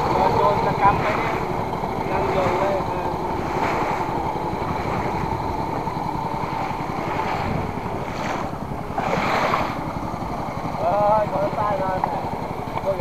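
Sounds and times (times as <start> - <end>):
wind on microphone: 0.0 - 10.9
boat engine running: 0.0 - 13.0
water rushing along hull: 0.0 - 13.0.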